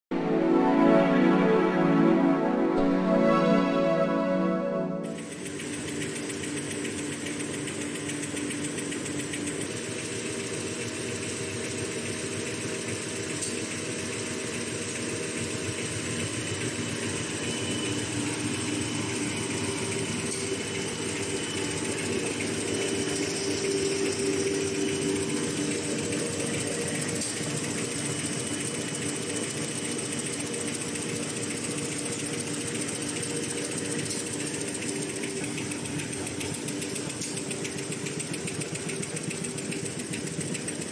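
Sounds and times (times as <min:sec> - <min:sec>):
machine rollers humming: 0:05.0 - 0:40.9
fast mechanical clatter: 0:05.3 - 0:40.9.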